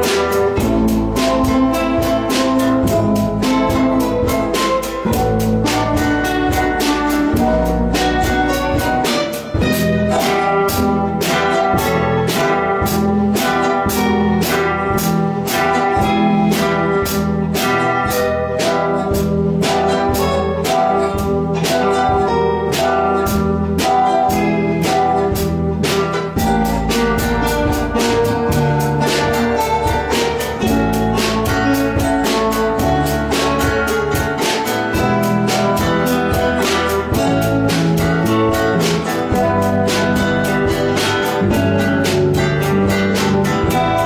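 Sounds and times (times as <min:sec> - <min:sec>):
guitar ensemble playing: 0:00.0 - 0:44.0.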